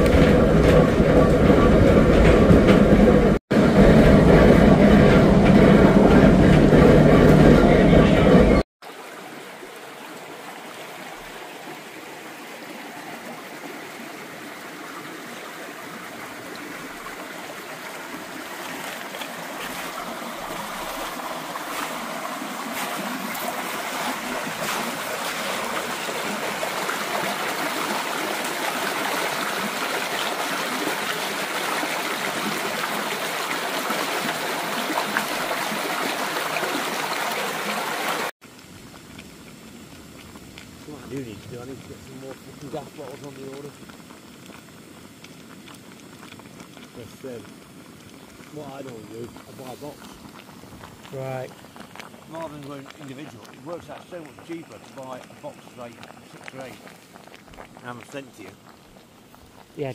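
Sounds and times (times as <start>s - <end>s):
small stream trickling: 8.8s - 59.9s.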